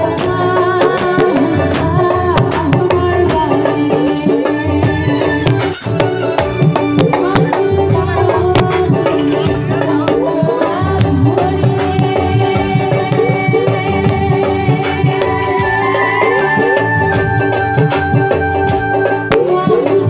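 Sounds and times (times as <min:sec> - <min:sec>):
live band music over speakers: 0:00.0 - 0:20.0
steady drum beat: 0:00.0 - 0:20.0.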